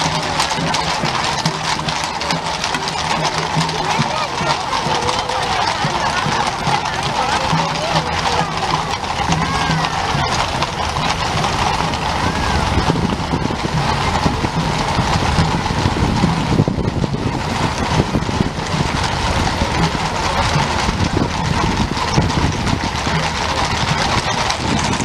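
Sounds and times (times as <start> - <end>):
hooves clattering on cobbles: 0.0 - 25.0
motorcycle engine: 0.0 - 25.0.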